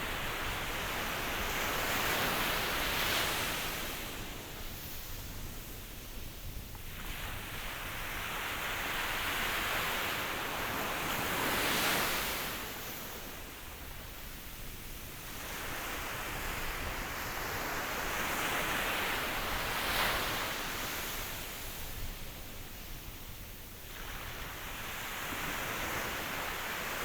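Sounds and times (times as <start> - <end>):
ocean waves surf hiss: 0.0 - 27.0.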